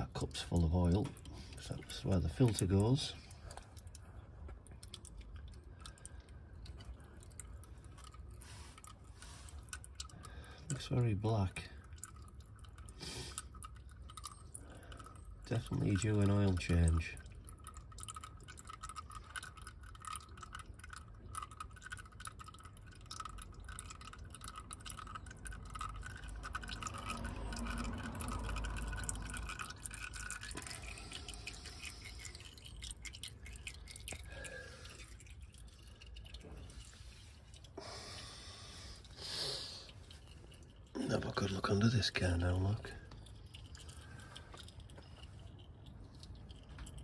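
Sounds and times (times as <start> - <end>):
oil dripping into pan: 0.0 - 47.0.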